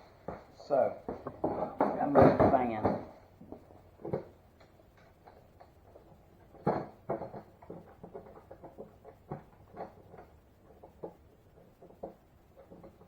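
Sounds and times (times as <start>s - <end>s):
objects knocking and clattering: 0.0s - 13.0s.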